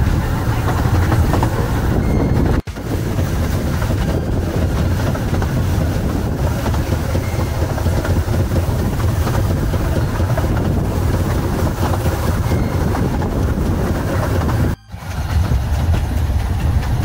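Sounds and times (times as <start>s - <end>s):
steam train rumbling: 0.0s - 17.0s.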